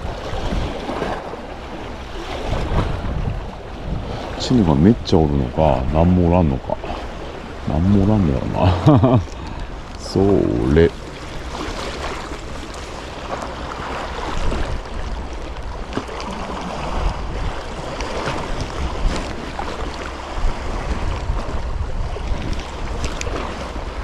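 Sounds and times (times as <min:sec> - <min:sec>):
small waves lapping on rocks: 0:00.0 - 0:24.0
wind buffeting microphone: 0:00.0 - 0:24.0.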